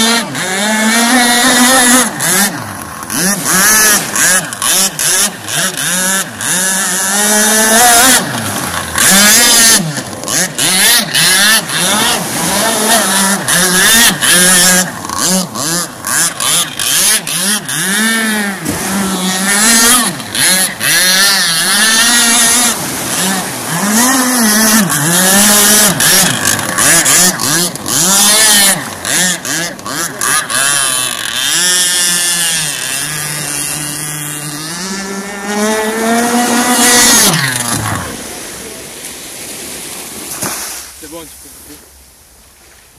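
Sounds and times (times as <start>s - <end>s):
speedboat engine revving: 0.0s - 42.2s.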